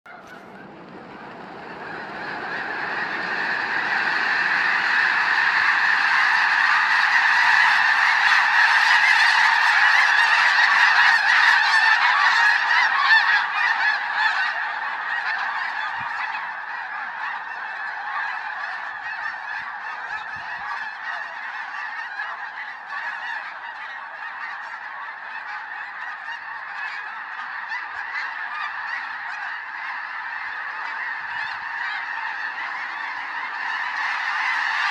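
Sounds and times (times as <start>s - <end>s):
rush of wingbeats: 0.1s - 34.9s
snow geese honking: 0.1s - 34.9s.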